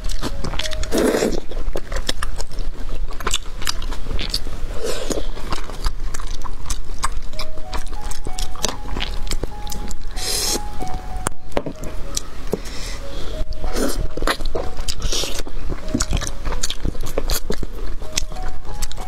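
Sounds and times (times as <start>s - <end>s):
wet chewing and lip smacks: 0.0s - 10.7s, 13.5s - 19.0s
faint background music: 0.0s - 19.0s.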